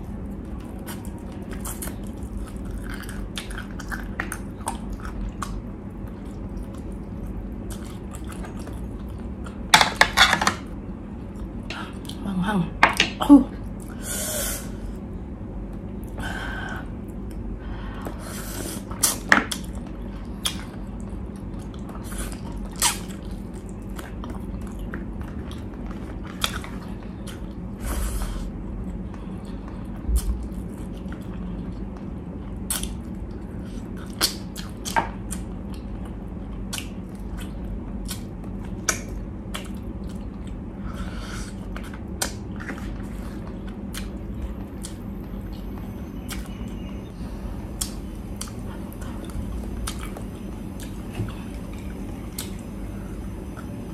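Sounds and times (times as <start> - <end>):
low steady hum: 0.0 - 53.9
person chewing food: 0.1 - 9.7, 16.8 - 27.7, 28.3 - 46.6, 47.7 - 52.6.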